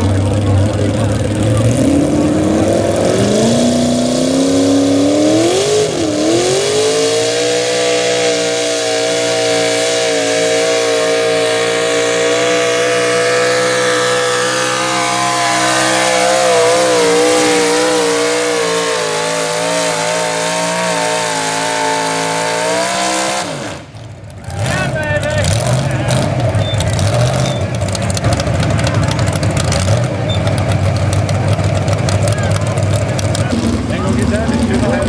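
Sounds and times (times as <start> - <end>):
pulling truck engine at full throttle: 0.0 - 35.0.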